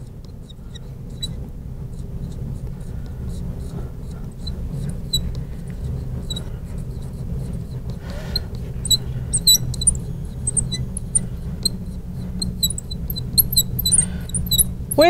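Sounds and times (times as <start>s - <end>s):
marker squeaking on glass: 0.0s - 1.4s, 3.3s - 15.0s
steady low hum: 0.0s - 15.0s.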